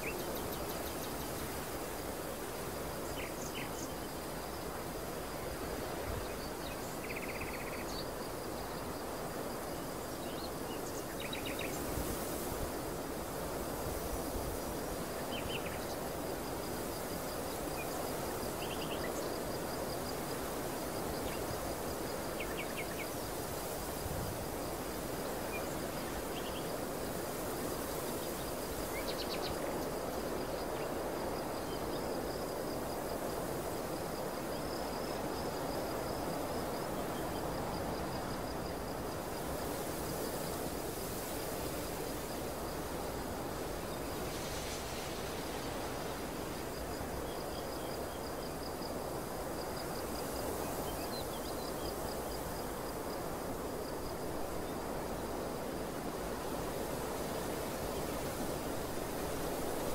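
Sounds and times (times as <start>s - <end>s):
high insect trill: 0.0s - 59.9s
wind rushing over a field: 0.0s - 59.9s.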